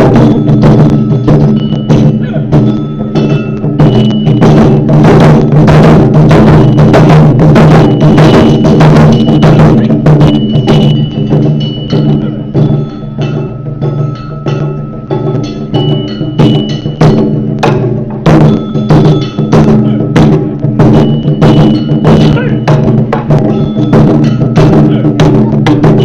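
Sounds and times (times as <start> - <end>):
taiko drum ensemble playing: 0.0 - 26.0.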